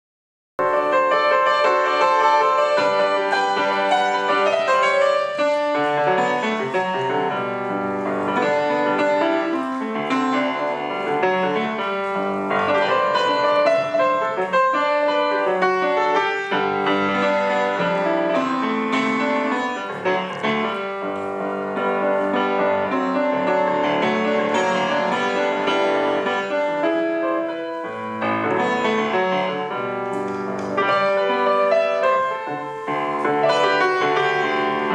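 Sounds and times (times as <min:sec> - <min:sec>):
lively solo piano: 0:00.6 - 0:34.9.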